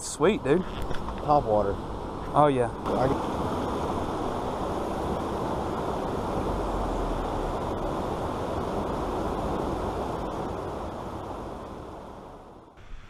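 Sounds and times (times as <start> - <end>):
muffled low rushing noise: 0.3 - 13.0.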